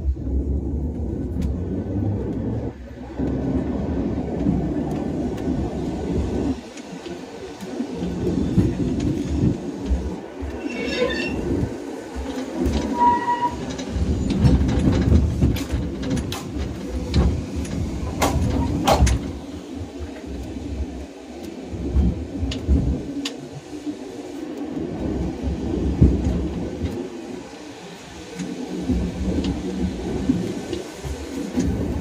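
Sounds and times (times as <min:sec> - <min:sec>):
tram rumbling on rails: 0:00.0 - 0:32.0
wheels clicking and knocking: 0:00.0 - 0:32.0.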